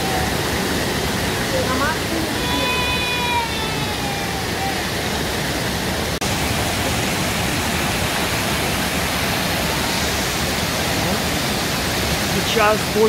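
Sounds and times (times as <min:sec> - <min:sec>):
water spraying and pouring: 0:00.0 - 0:13.0.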